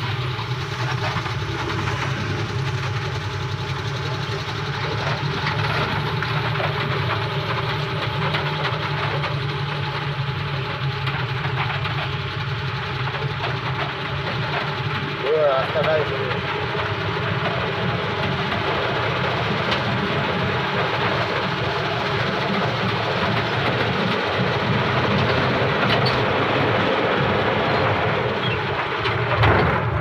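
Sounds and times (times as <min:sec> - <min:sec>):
road and tyre noise: 0:00.0 - 0:30.0
vehicle engine droning: 0:00.0 - 0:30.0.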